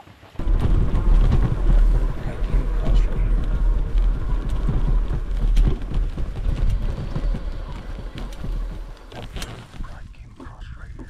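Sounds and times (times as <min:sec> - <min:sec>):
electric bike rumbling over grass: 0:00.1 - 0:10.0
faint rattles: 0:00.1 - 0:11.0
wind buffeting microphone: 0:00.4 - 0:11.0.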